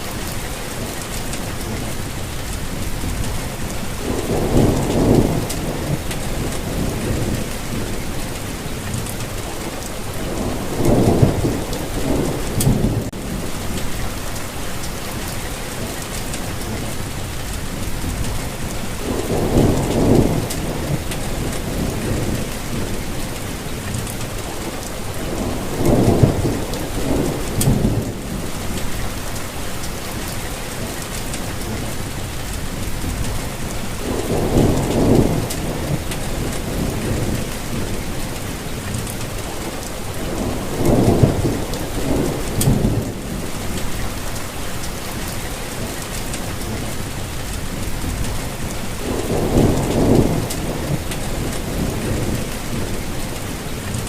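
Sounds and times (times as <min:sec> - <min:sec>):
steady rainfall hissing: 0:00.0 - 0:54.0.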